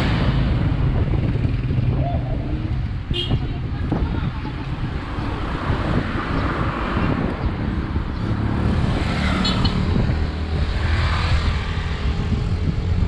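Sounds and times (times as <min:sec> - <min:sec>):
wind and road rumble: 0:00.0 - 0:13.0.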